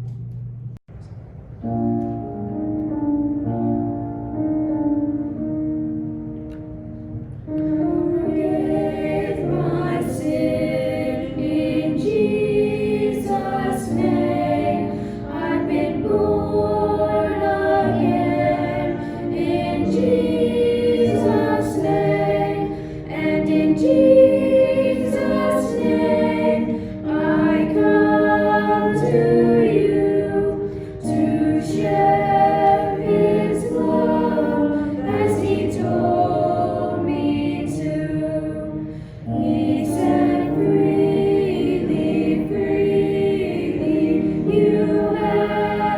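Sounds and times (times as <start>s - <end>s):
choir singing: 7.5s - 45.9s.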